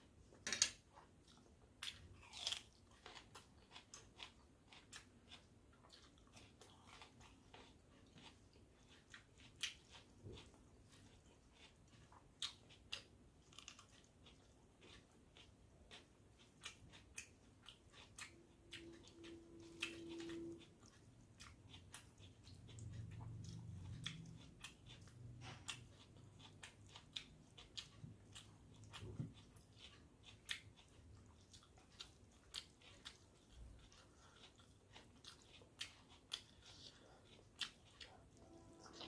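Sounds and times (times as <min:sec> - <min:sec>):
mouth chewing clicks and smacks: 0:00.6 - 0:39.0.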